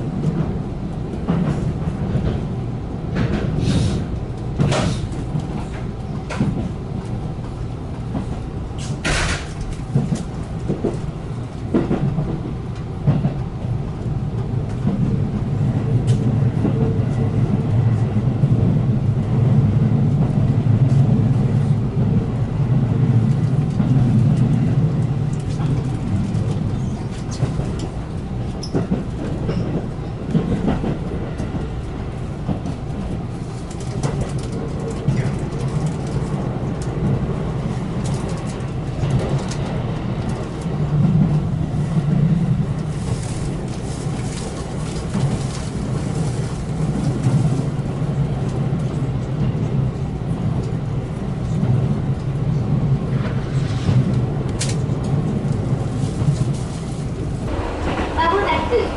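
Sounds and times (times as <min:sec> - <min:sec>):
electric train rumbling: 0:00.0 - 0:58.9
train wheels clicking on track: 0:00.0 - 0:58.9.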